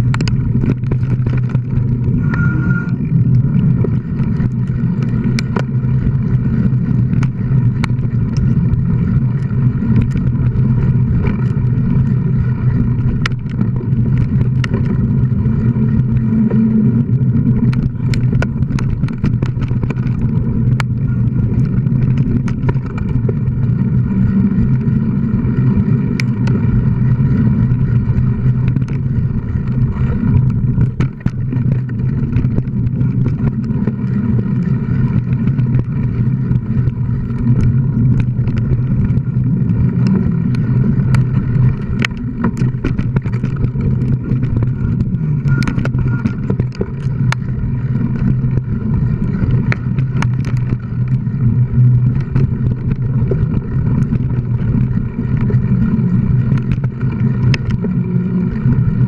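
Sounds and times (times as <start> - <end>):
bike knocks and rattles: 0.0 - 2.5, 3.1 - 51.2
tyres rumbling on dirt: 0.0 - 59.0
wind on microphone: 0.0 - 59.0.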